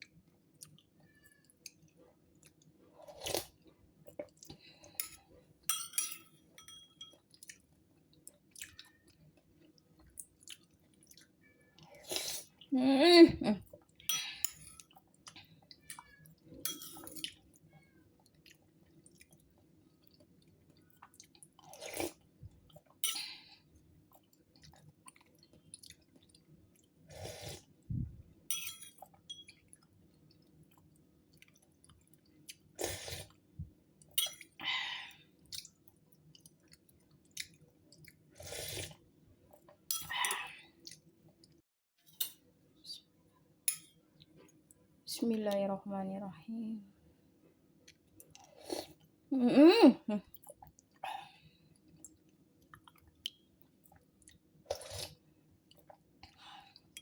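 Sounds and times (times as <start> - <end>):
person chewing and sipping soup: 0.0 - 5.7, 6.4 - 12.7, 13.6 - 41.6, 47.5 - 49.2, 50.2 - 57.0
faint room hum: 0.0 - 57.0.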